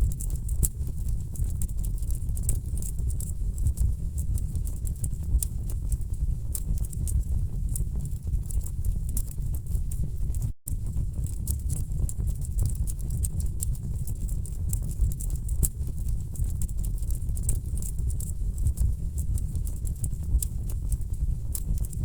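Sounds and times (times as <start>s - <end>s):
low rumble of flames: 0.0s - 22.0s.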